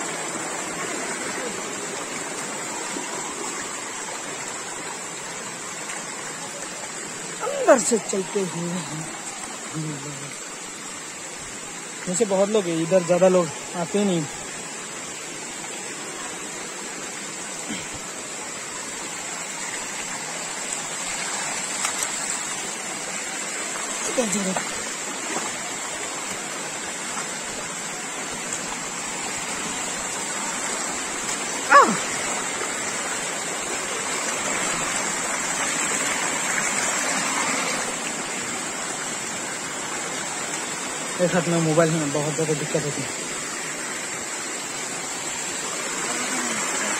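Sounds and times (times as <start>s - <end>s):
stream water running over rocks: 0.0s - 46.9s.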